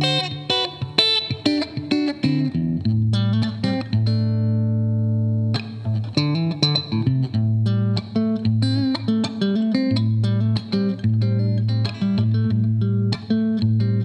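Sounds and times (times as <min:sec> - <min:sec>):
electric guitar picked notes: 0:00.0 - 0:14.0
guitar chord ringing: 0:00.0 - 0:14.0.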